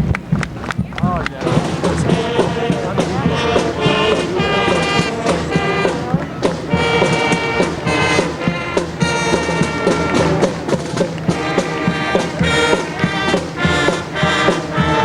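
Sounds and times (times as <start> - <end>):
steady drum beat: 0.0 - 15.0
brass: 1.3 - 15.0.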